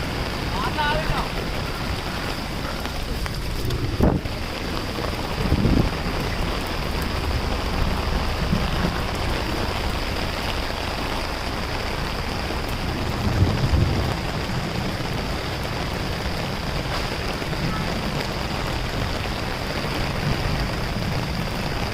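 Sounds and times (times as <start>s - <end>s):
heavy rain falling: 0.0s - 21.9s
wind buffeting microphone: 1.1s - 21.9s.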